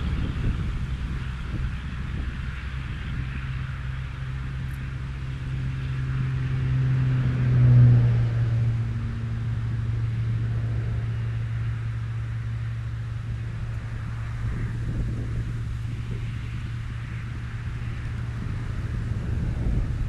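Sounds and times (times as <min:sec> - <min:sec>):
motor passing by: 0:00.0 - 0:20.0.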